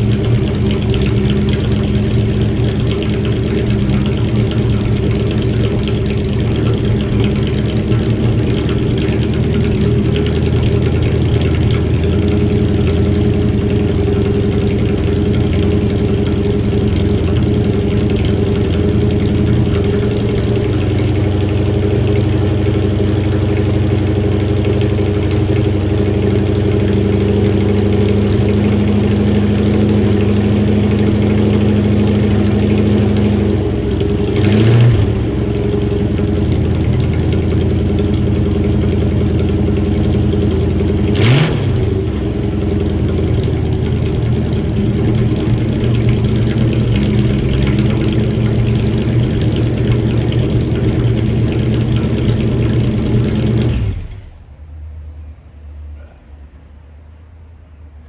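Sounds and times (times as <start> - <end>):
car engine idling: 0.0 - 58.0
engine throttle blips: 0.0 - 58.0.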